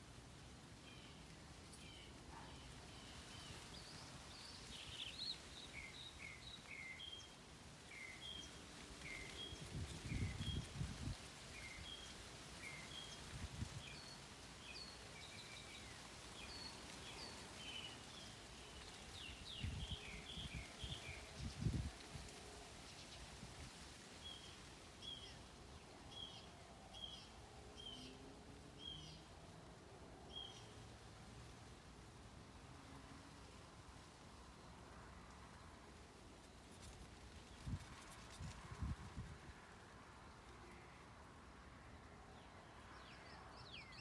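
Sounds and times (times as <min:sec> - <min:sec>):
faint outdoor hiss: 0:00.0 - 0:44.0.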